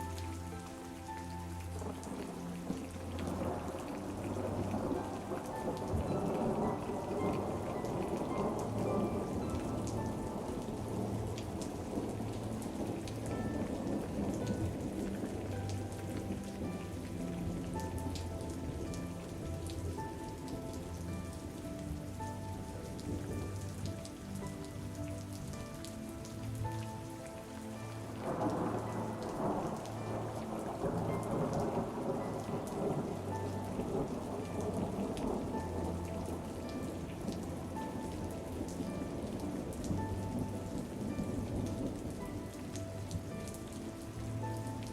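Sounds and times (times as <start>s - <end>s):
soft melody of held notes: 0.0s - 44.9s
steady rain falling: 0.0s - 44.9s.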